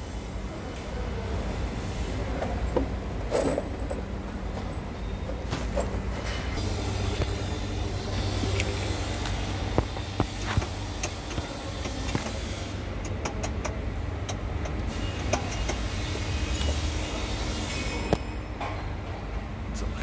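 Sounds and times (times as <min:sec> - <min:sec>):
vehicle engine humming: 0:00.0 - 0:18.4.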